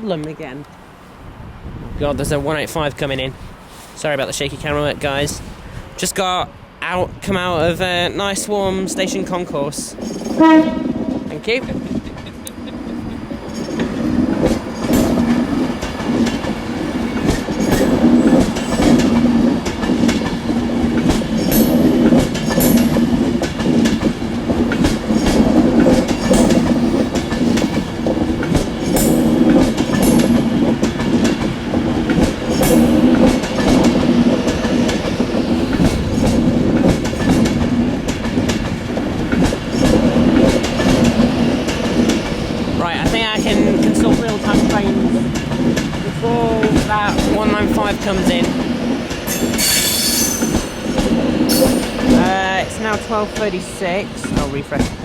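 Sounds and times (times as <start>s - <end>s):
diesel train engine drone: 0.0s - 55.0s
wheels clicking over rail joints: 9.6s - 55.0s.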